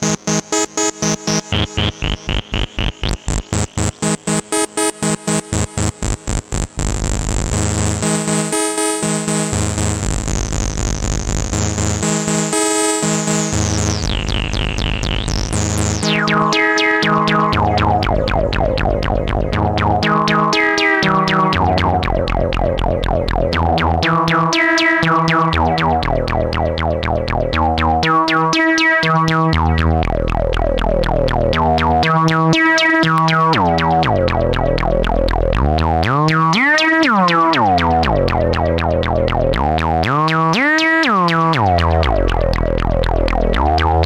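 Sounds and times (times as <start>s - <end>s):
analog synthesizer note pattern: 0.0s - 44.0s
synthesizer bass notes: 0.0s - 44.0s.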